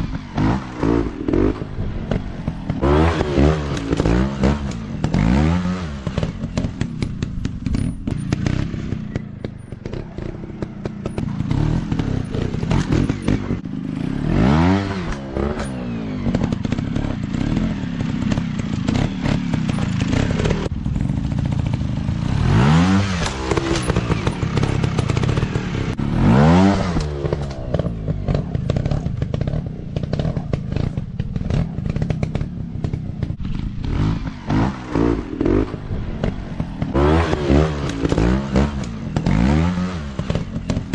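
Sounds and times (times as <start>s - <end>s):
bikes clattering over rough ground: 0.0s - 40.9s
dirt bike engines revving: 0.0s - 40.9s.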